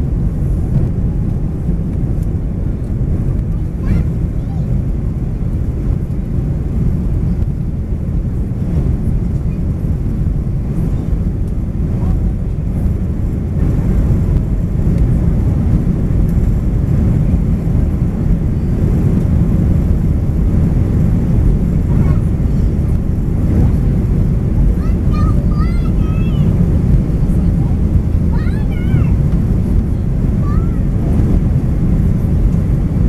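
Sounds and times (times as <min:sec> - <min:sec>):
aircraft engines rumbling: 0:00.0 - 0:33.0
rushing airflow: 0:00.0 - 0:33.0.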